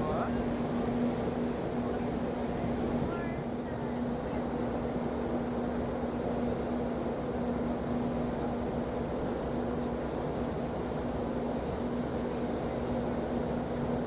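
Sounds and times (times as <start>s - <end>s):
ferry engines droning: 0.0s - 14.0s.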